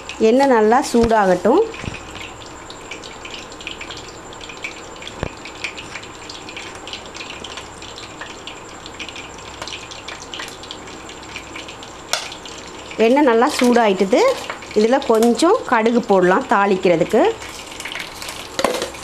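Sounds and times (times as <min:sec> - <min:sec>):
oil crackling in a pan: 0:00.0 - 0:19.0.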